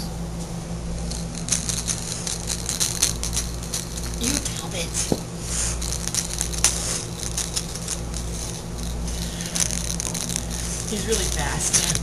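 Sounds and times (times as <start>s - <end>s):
steady low hum: 0.0s - 12.0s
cat playing clicks and rattles: 1.0s - 12.0s.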